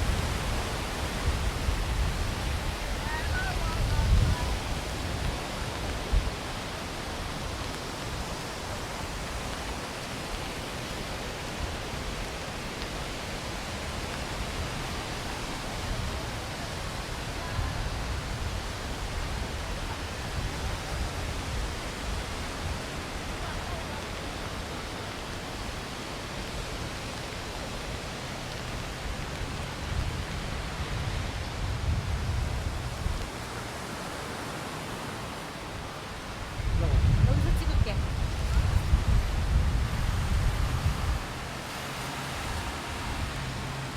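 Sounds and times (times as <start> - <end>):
wind buffeting microphone: 0.0 - 10.8, 13.7 - 43.9
rain: 0.0 - 43.9
strong wind: 0.0 - 43.9.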